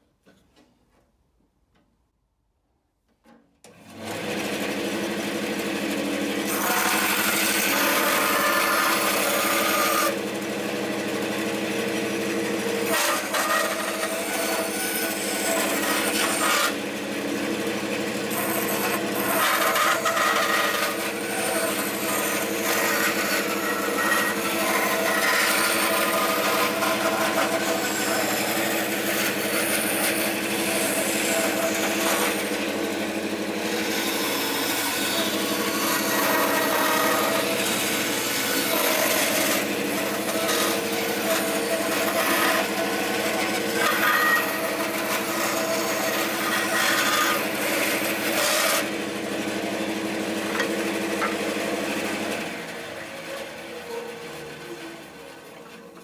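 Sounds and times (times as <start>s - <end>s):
bandsaw motor hum: 3.6s - 56.0s
saw blade cutting wood: 3.7s - 56.0s.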